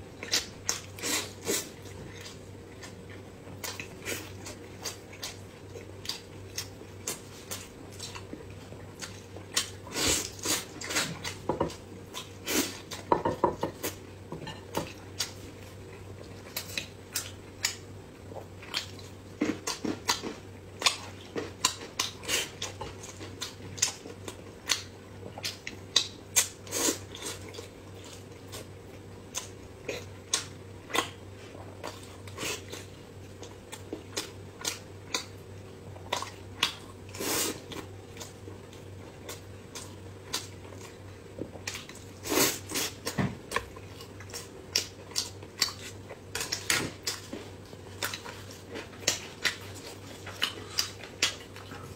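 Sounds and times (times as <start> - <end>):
wet chewing and mouth sounds: 0.2 - 14.0, 14.6 - 51.9.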